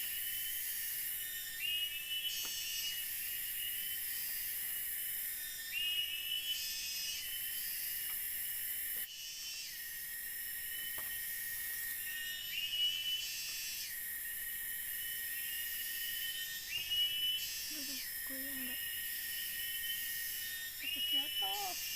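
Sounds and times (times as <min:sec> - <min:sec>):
insects shrilling: 0:00.0 - 0:21.9.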